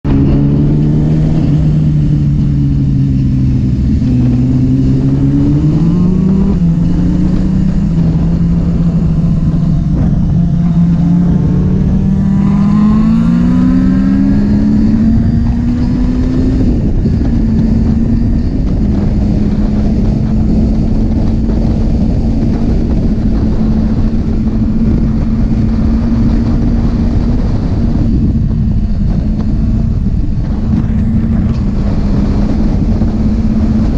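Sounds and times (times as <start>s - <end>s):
motorcycle engine revving: 0.0s - 33.9s
wind noise on microphone: 0.0s - 33.9s.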